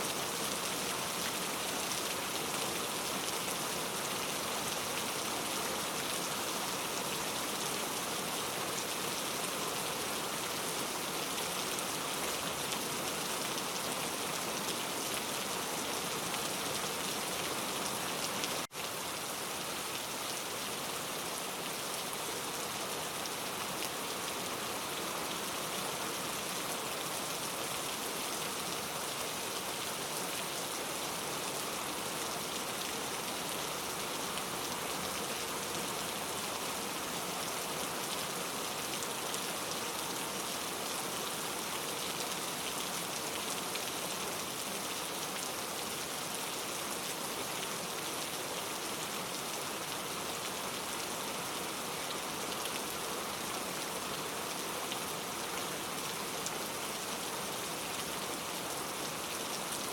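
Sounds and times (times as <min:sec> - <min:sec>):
steady dense rainfall: 0:00.0 - 0:59.9.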